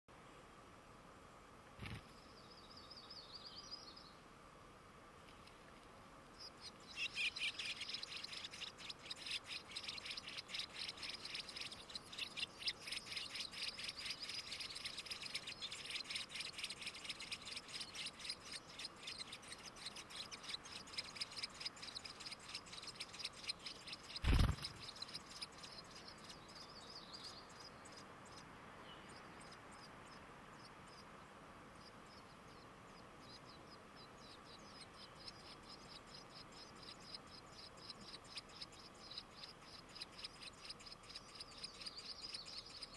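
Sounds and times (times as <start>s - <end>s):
nestlings peeping: 5.2s - 31.2s, 31.8s - 42.9s.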